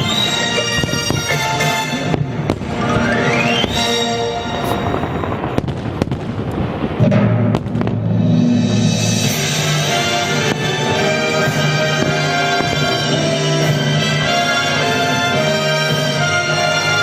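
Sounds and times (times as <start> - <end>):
loud music: 0.0 - 5.9, 8.9 - 17.0
fireworks bangs: 0.0 - 8.3, 9.2 - 17.0.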